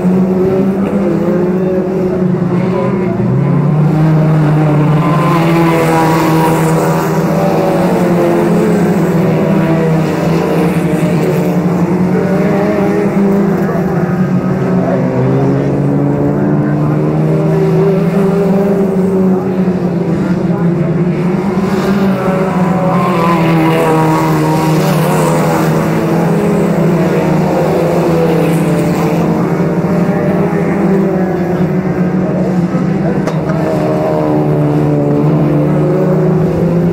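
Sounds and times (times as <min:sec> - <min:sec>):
race car engines: 0:00.0 - 0:36.9.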